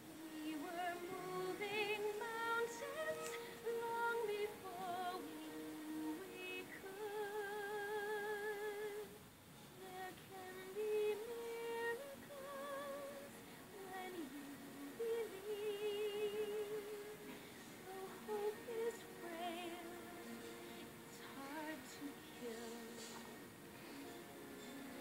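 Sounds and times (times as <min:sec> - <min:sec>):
soft film score: 0:00.0 - 0:09.2, 0:09.8 - 0:25.0
woman singing wordless notes: 0:00.0 - 0:09.2, 0:09.8 - 0:25.0.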